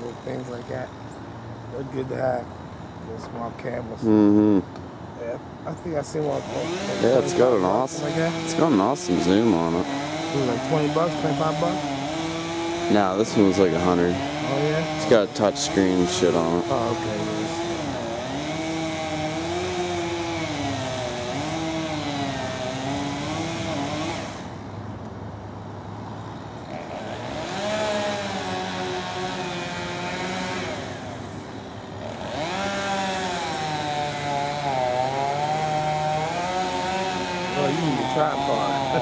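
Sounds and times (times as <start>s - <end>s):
chainsaw cutting: 0.0s - 0.9s, 6.0s - 24.6s, 26.6s - 39.0s.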